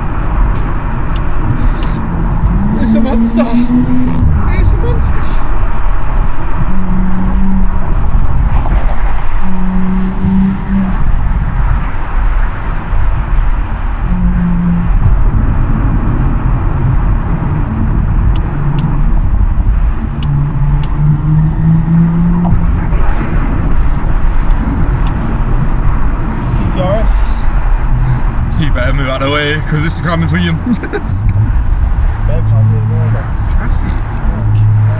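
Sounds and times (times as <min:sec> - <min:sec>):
loud car exhaust revving: 0:00.0 - 0:34.9.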